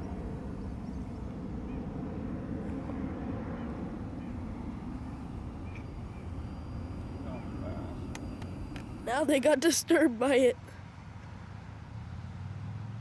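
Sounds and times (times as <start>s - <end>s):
drone motors humming: 0.0s - 10.7s.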